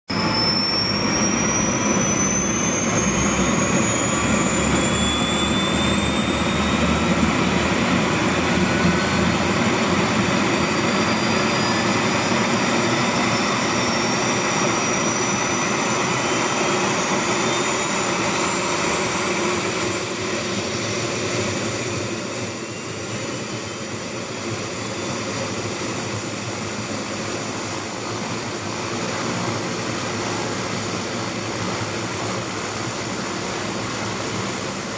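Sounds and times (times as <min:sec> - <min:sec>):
helicopter engine and rotor noise: 0:00.1 - 0:34.9
helicopter turbine whine: 0:00.1 - 0:34.9.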